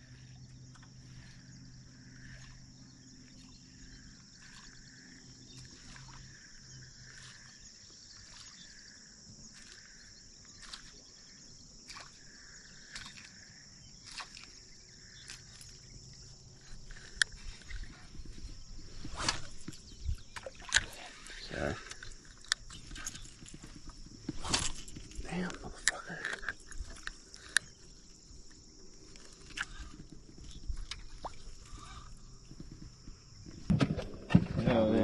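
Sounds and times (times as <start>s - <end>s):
insects singing high-pitched drone: 0.0s - 33.7s
soft repeating insect call: 0.0s - 35.0s.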